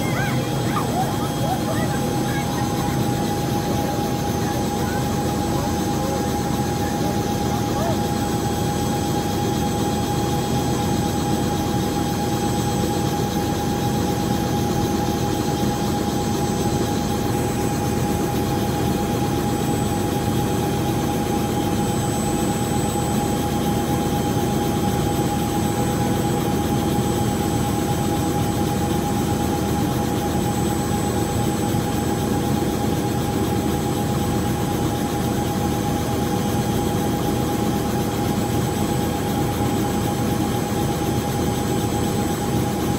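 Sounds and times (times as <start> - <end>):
helicopter idling: 0.0 - 42.9.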